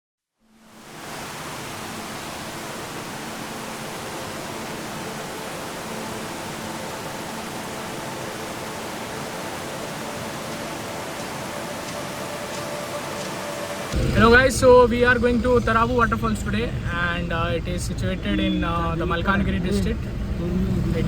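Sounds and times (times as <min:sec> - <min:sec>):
waterfall roaring: 0:00.7 - 0:21.0.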